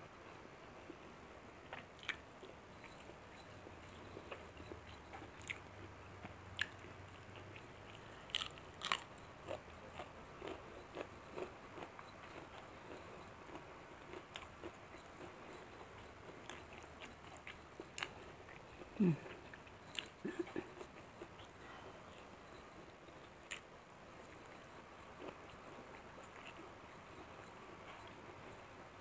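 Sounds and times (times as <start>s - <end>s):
chewing and wet mouth sounds: 0.9s - 28.7s.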